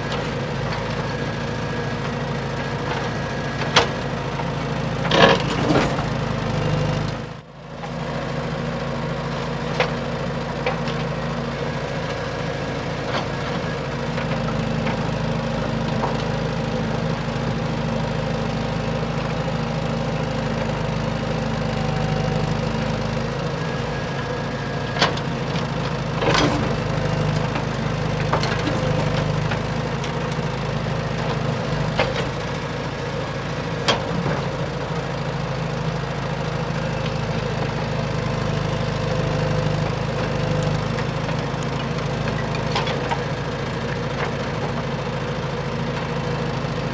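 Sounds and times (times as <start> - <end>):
model excavator motor humming: 0.0 - 46.9.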